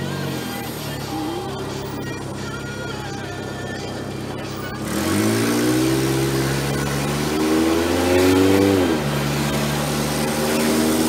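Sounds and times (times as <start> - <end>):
car engine from inside cabin: 0.0 - 11.0.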